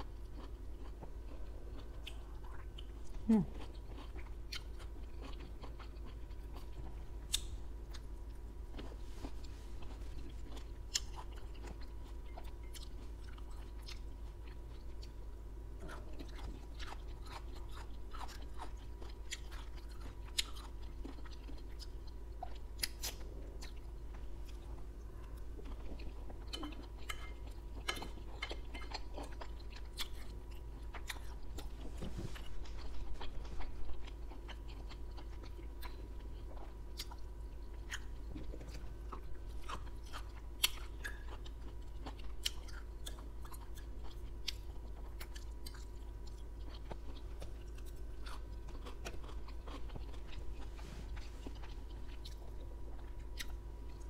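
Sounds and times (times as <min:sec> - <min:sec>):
chewing and mouth sounds: 0:00.0 - 0:15.2, 0:15.8 - 0:54.0
steady low hum: 0:00.0 - 0:54.0.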